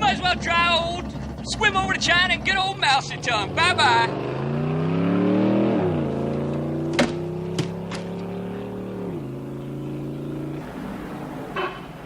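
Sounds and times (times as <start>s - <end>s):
car engine accelerating through gears: 0.4s - 12.0s.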